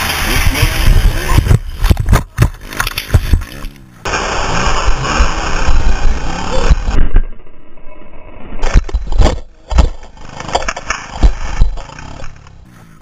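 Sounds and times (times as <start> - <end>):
heavy thumps and scrapes of crash: 0.0 - 7.3, 8.6 - 12.6
low rumbling: 0.0 - 13.0.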